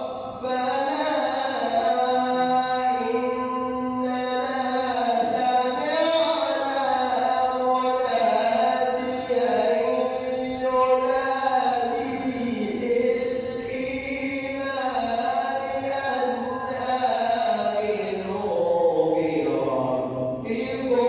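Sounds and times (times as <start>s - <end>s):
man reciting melodically: 0.0s - 21.0s.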